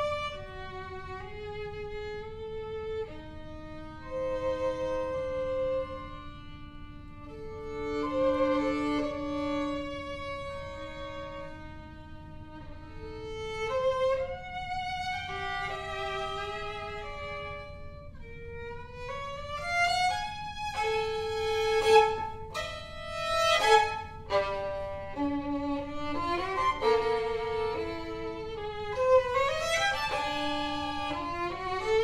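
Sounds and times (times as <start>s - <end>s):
solo violin playing: 0.0s - 32.0s.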